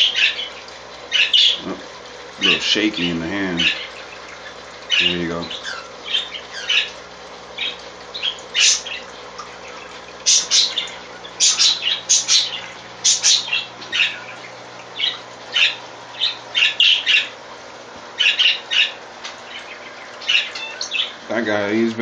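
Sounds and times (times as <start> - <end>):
birds chirping and squawking: 0.0 - 1.8, 2.4 - 17.4, 18.1 - 22.0
faint hum: 0.0 - 22.0.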